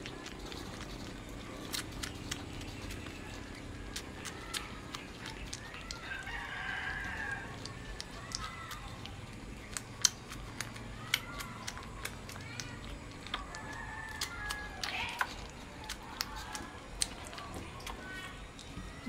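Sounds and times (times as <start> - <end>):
wet eating clicks and smacks: 0.0 - 19.0.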